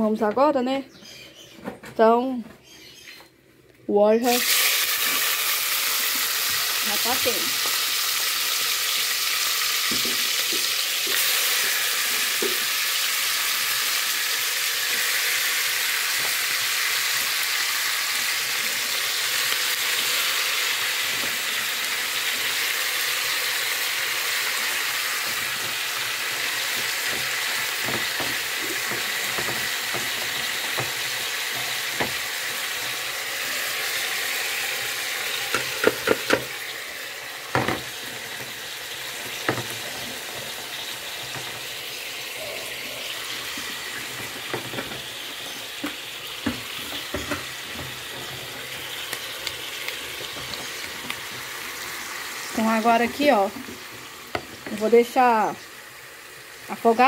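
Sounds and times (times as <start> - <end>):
food sizzling in a pan: 4.2 - 57.0.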